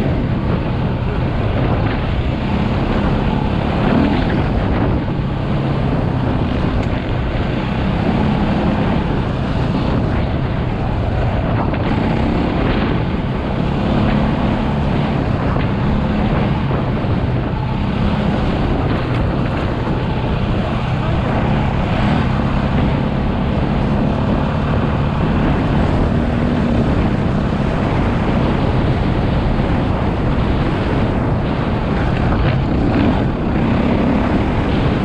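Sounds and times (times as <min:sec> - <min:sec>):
motorcycle engine revving: 0:00.0 - 0:35.0
wind buffeting microphone: 0:00.0 - 0:35.0.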